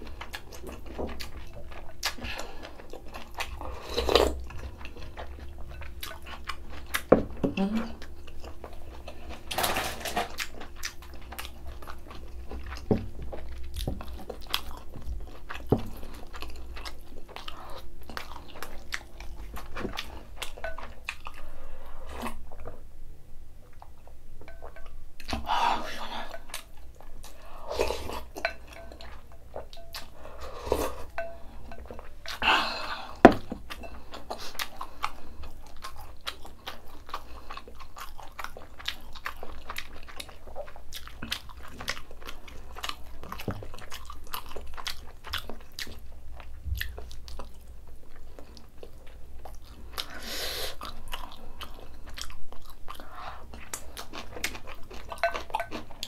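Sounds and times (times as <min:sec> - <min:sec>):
chewing: 0:00.0 - 0:22.8, 0:23.7 - 0:56.0.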